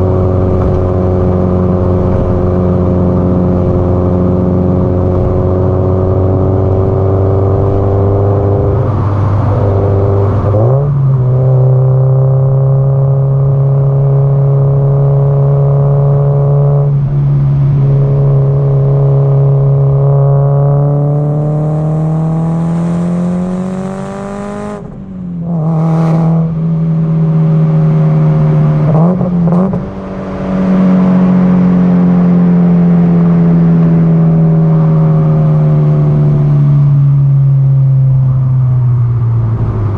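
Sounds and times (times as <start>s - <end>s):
car engine exhaust note: 0.0s - 39.9s.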